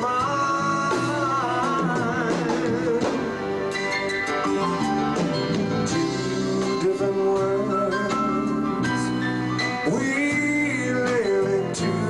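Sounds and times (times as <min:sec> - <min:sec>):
man singing a slow ballad: 0:00.0 - 0:03.6, 0:05.9 - 0:12.0
live band playing: 0:00.0 - 0:12.0.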